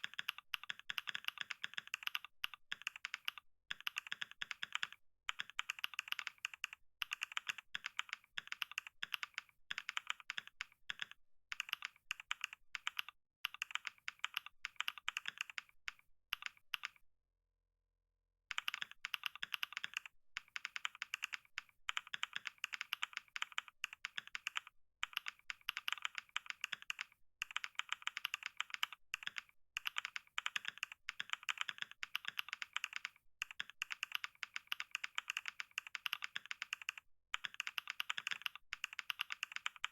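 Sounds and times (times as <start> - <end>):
fast typing on keyboard: 0.0 - 17.0, 18.5 - 39.9.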